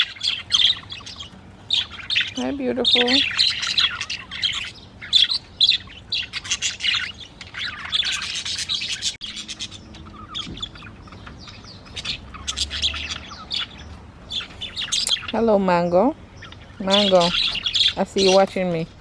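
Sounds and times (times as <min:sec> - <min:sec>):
budgies chirping and warbling: 0:00.0 - 0:19.0.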